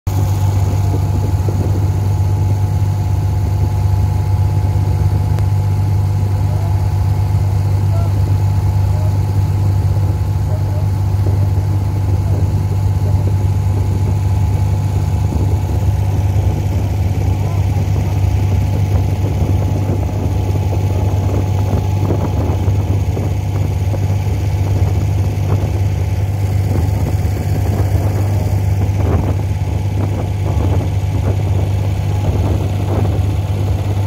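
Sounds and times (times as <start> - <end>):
boat engine humming: 0.1 - 34.0.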